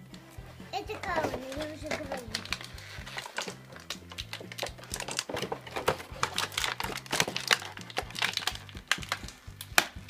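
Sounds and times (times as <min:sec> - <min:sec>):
plastic packaging crinkling: 0:01.2 - 0:09.9.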